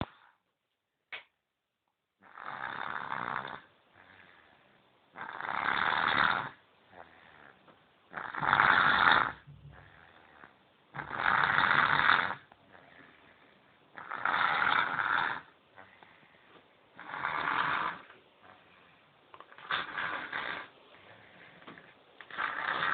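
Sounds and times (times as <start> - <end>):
baby snoring: 2.2 - 16.4, 17.0 - 22.9.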